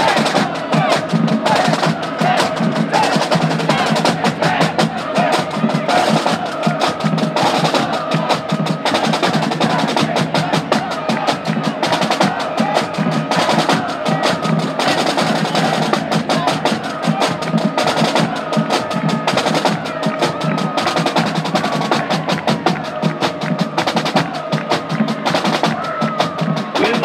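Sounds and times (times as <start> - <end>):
bass drum: 0.0 - 27.0
snare drum cadence: 0.0 - 27.0
wind instruments holding tones: 0.0 - 27.0.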